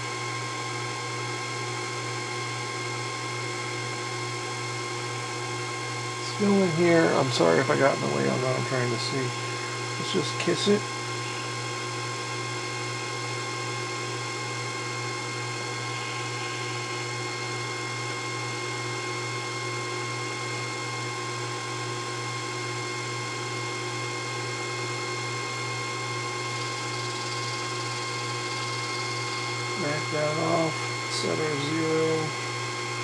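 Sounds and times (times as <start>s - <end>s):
mini lathe motor humming: 1.1s - 33.0s.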